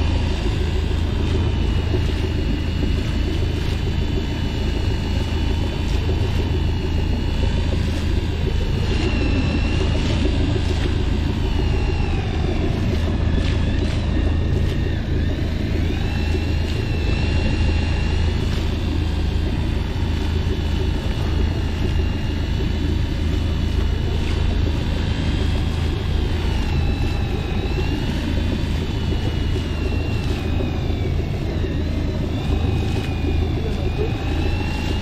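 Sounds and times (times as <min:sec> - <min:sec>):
boat engine humming: 0:00.0 - 0:35.0
high wavering whine: 0:00.0 - 0:35.0.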